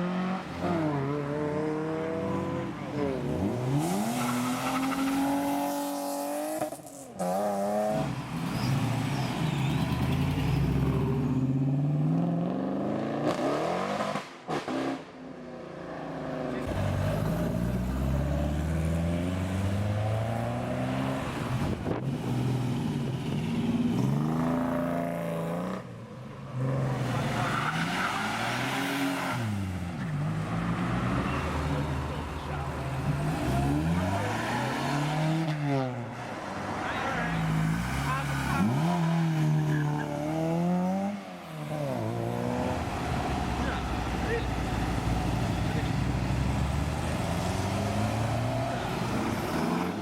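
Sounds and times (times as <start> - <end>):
car engines accelerating hard: 0.0 - 50.0.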